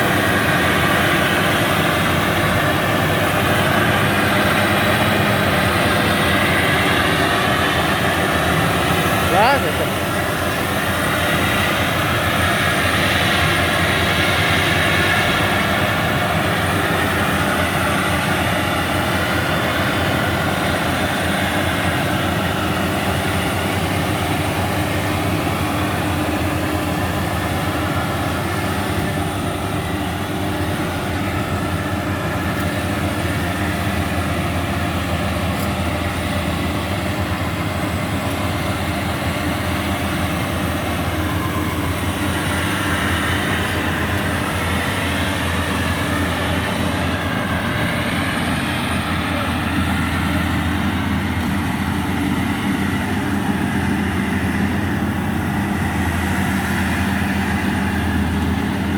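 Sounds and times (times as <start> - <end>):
combine harvester engine drone: 0.0 - 58.9.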